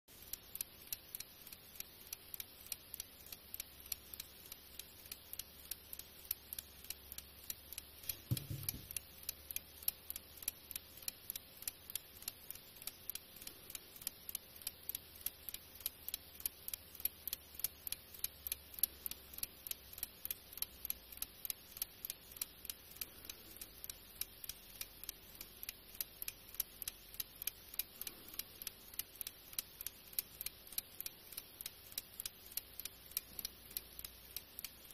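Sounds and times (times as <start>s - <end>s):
clock ticking: 0.1s - 34.9s.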